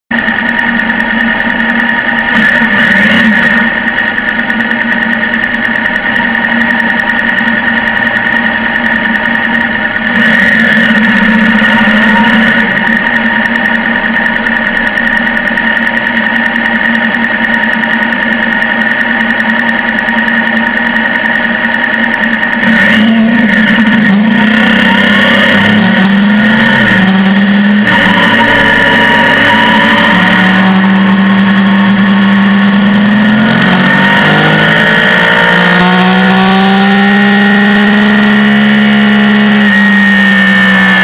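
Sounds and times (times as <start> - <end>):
motorcycle engine idling: 0.1 - 41.0.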